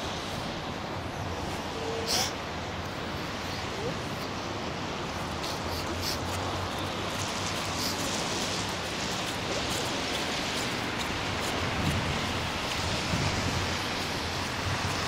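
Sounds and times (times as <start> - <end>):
wind buffeting microphone: 2.4 - 15.0.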